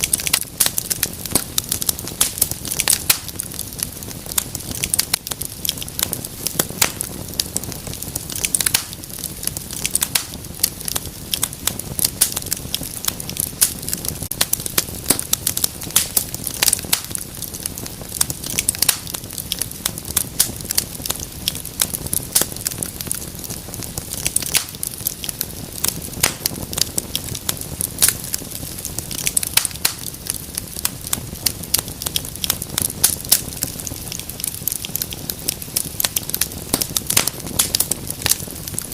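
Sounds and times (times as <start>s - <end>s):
low rush of flames: 0.0s - 38.9s
wood fire crackling: 0.0s - 38.9s.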